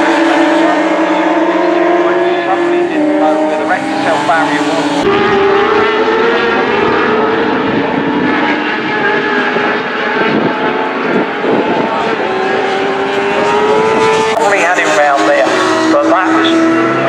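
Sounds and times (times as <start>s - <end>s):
racing engines droning: 0.0s - 17.0s.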